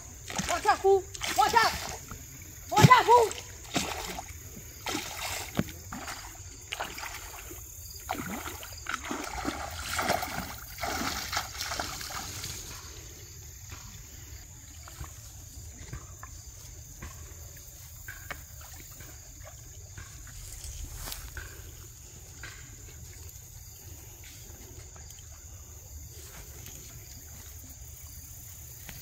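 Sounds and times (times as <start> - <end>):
creek trickling: 0.0 - 29.0
feet splashing in creek: 0.0 - 29.0.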